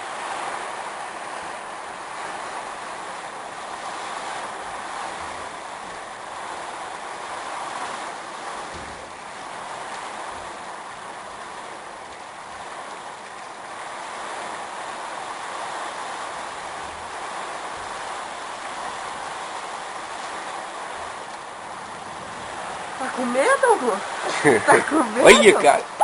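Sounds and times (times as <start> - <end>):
heavy rain: 0.0 - 26.0
strong gusting wind: 0.0 - 26.0.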